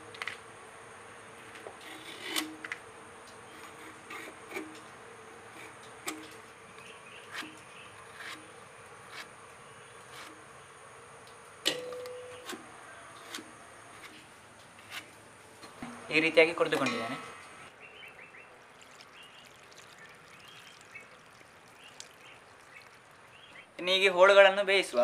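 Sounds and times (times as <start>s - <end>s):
faint steady hum: 0.0s - 24.2s.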